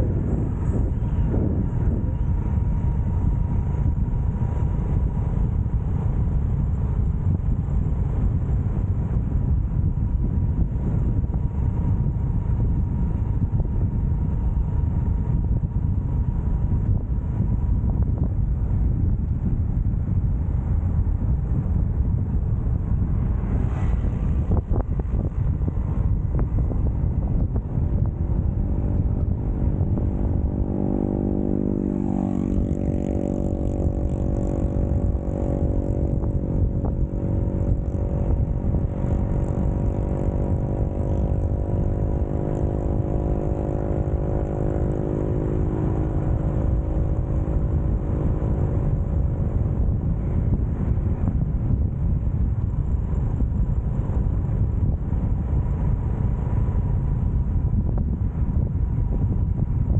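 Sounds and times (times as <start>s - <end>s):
motorcycle engine: 0.0s - 19.6s, 20.2s - 59.6s
wind rumble on microphone: 0.0s - 59.9s.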